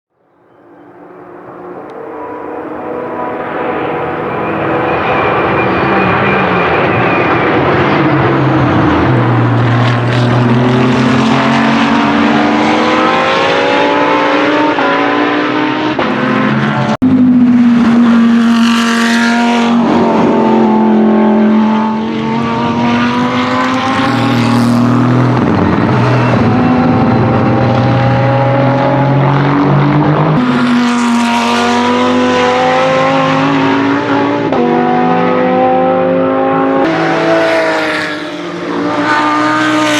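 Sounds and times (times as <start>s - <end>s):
race car engine passing: 0.5s - 39.9s.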